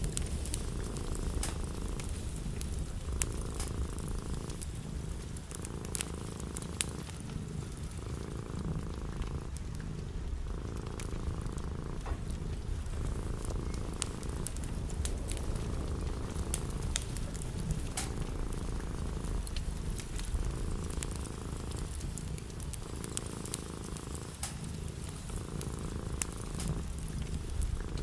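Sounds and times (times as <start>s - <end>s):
cat purring: 0.0s - 28.0s
wood fire crackling: 0.0s - 28.0s.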